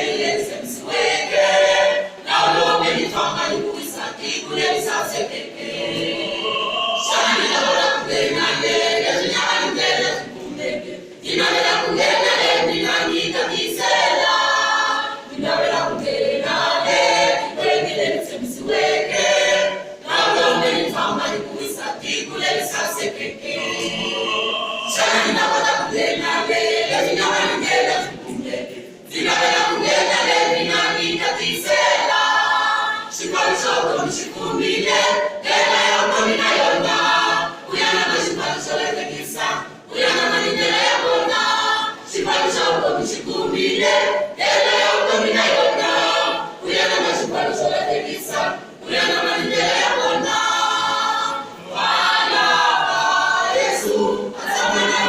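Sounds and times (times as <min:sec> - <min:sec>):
choir singing unaccompanied: 0:00.0 - 0:55.0.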